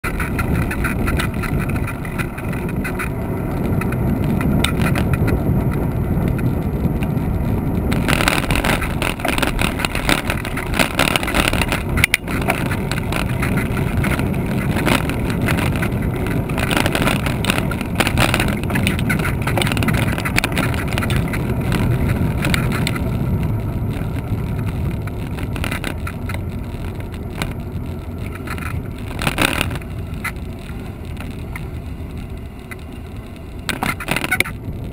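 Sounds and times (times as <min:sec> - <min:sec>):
low rumble of riding: 0:00.0 - 0:34.9
wind rushing over microphone: 0:00.0 - 0:34.9.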